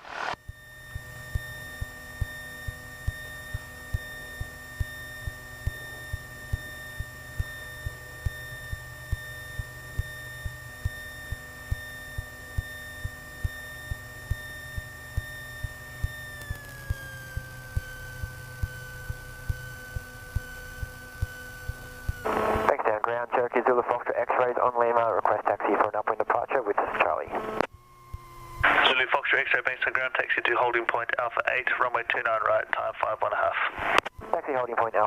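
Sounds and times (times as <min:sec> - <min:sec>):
electrical whine: 0:00.0 - 0:35.0.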